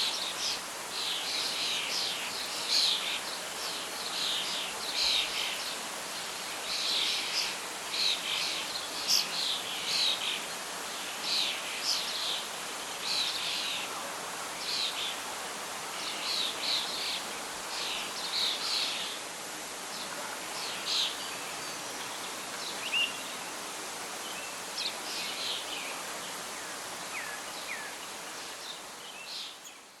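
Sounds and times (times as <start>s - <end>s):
wind in leaves: 0.0s - 30.0s.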